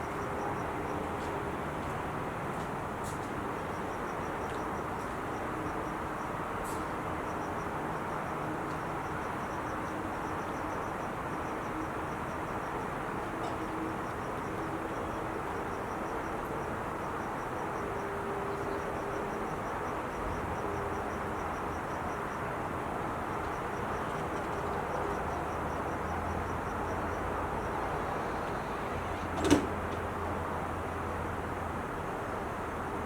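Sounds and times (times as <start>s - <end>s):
freeway traffic roar: 0.0s - 33.0s.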